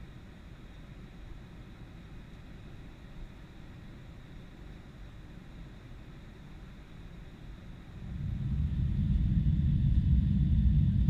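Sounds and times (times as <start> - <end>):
jet engine rumble and hiss: 0.0 - 11.0.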